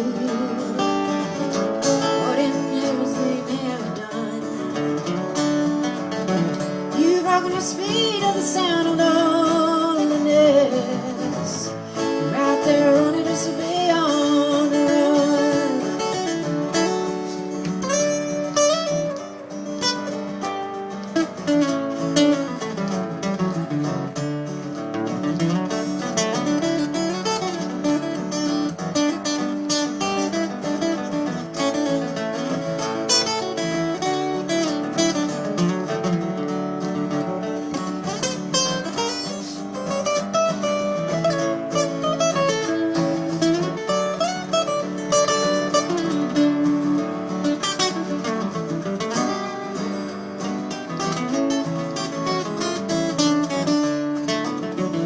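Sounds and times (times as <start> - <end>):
picked acoustic guitar melody: 0.0 - 55.0
strummed guitar chords: 0.0 - 55.0.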